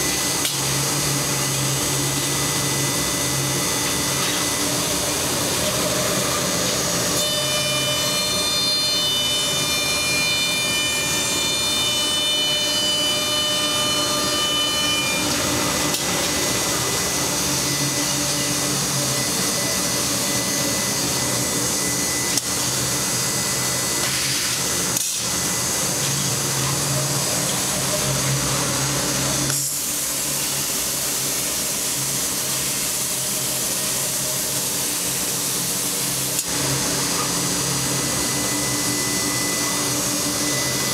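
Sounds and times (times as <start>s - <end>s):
woodworking machine running: 0.0s - 40.9s.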